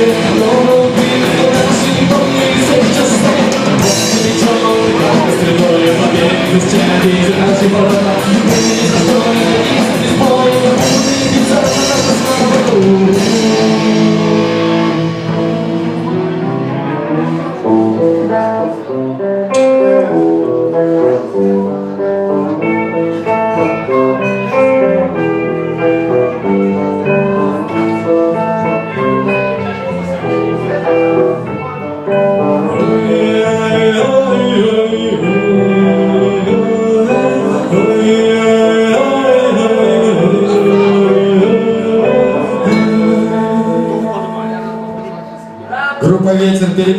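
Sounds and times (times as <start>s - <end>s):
melodic electric guitar: 0.0s - 46.9s
rock band playing live: 0.0s - 46.9s.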